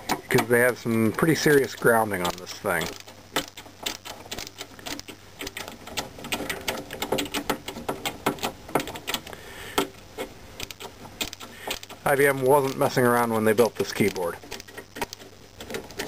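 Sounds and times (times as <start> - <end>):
screwdriver clicking and scraping: 0.0 - 13.0, 13.7 - 16.0.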